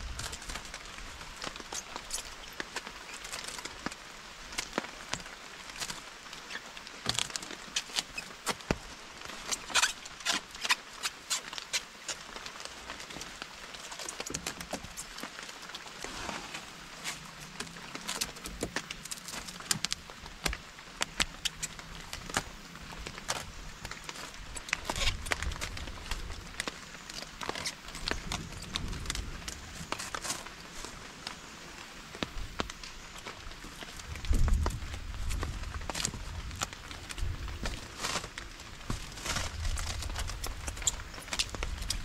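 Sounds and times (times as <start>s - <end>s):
plastic stretch wrap crinkling: 0.0s - 42.0s.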